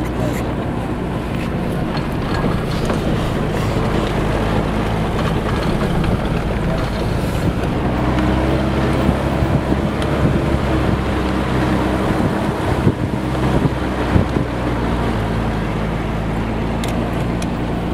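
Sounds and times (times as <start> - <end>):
engine hum: 0.0 - 17.9
tyre and road rumble: 0.0 - 17.9
vehicle jolts: 0.0 - 17.9
wind buffeting microphone: 0.0 - 17.9.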